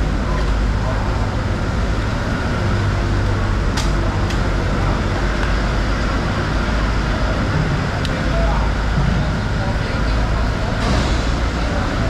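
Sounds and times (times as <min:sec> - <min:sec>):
loud background din: 0:00.0 - 0:12.0.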